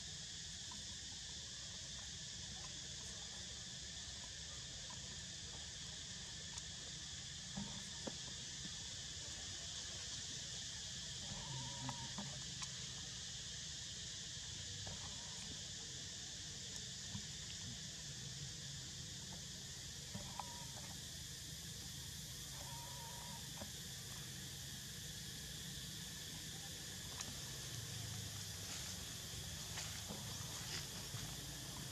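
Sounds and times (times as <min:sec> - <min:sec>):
high insect chorus: 0:00.0 - 0:31.9.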